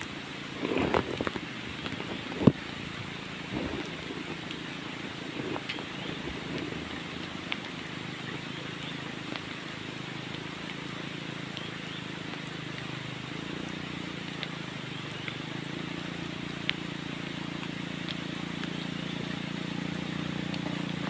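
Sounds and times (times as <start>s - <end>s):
light drizzle hiss: 0.0s - 21.0s
motorcycle engine low revs: 0.0s - 21.0s.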